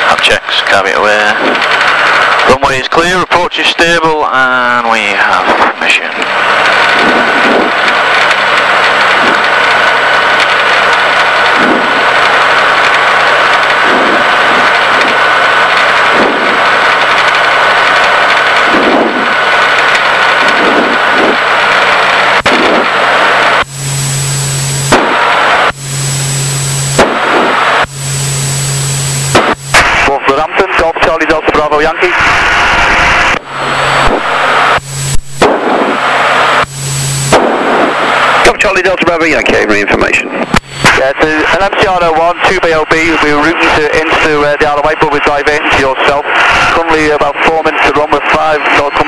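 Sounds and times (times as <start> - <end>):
light aircraft cabin engine noise: 0.0 - 49.0
low hum: 0.0 - 49.0.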